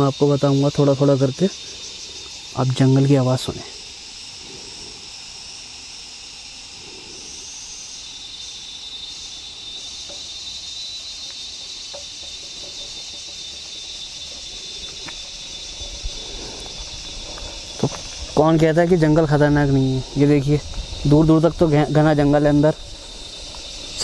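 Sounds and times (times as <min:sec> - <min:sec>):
insects shrilling: 0:00.0 - 0:24.0.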